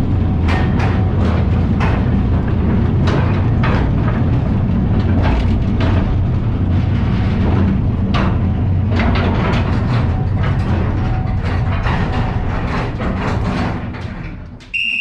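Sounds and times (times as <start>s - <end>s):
mine train rumbling on rails: 0.0s - 15.0s
wheels clacking: 0.0s - 15.0s.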